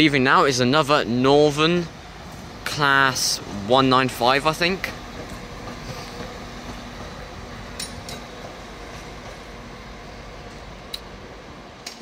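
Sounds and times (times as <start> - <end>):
distant train engine: 0.0 - 12.0
station rumble: 0.0 - 12.0.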